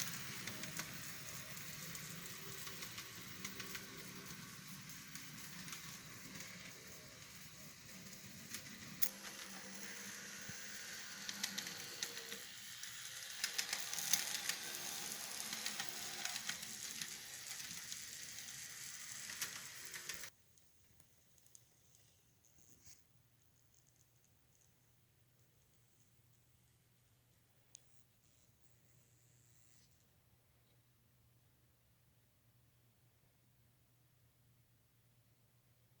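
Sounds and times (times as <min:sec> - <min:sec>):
steady hiss with clicks and crackles: 0:00.0 - 0:31.0.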